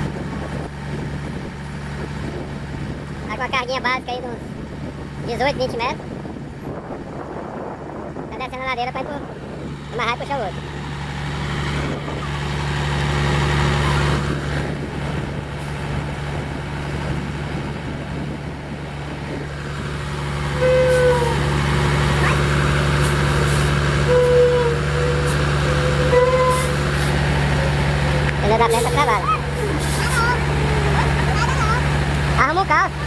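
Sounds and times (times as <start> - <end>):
diesel truck engine droning: 0.0 - 33.0.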